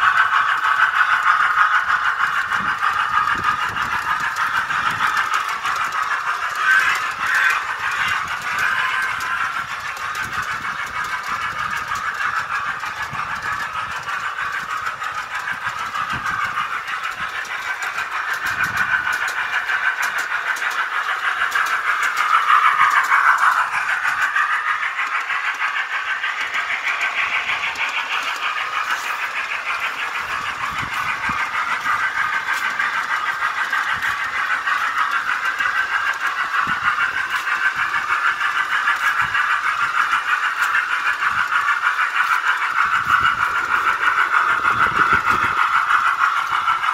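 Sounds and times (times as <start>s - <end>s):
tinny buzzy train engine sound: 0.0s - 46.9s.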